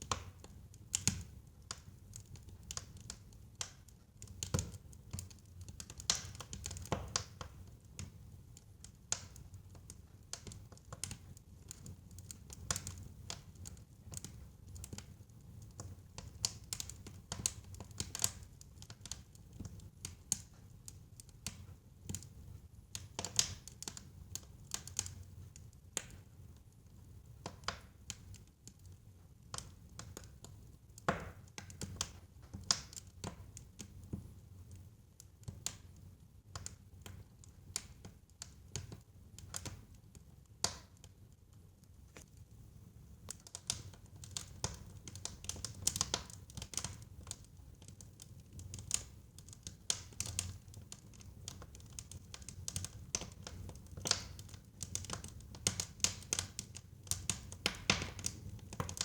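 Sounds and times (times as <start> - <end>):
burning logs crackling and popping: 0.0 - 59.0.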